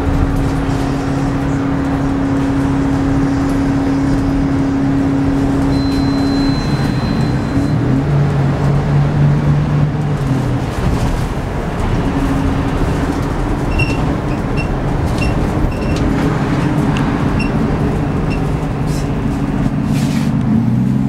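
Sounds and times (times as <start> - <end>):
bus diesel engine running: 0.0 - 21.0
road noise: 0.0 - 21.0.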